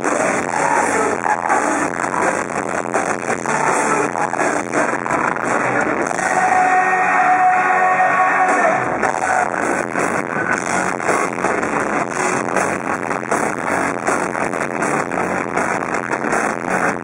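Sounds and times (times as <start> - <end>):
drums: 0.0 - 17.0
live rock band playing: 0.0 - 17.0.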